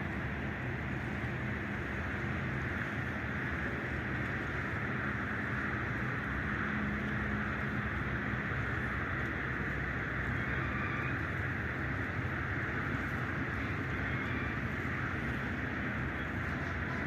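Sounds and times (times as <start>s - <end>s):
constant hiss: 0.0s - 17.0s
low engine-like hum: 0.0s - 17.0s.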